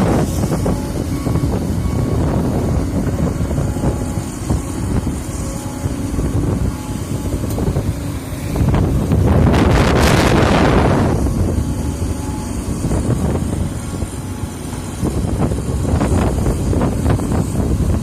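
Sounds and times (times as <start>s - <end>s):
excavator engine rumbling: 0.0s - 18.0s.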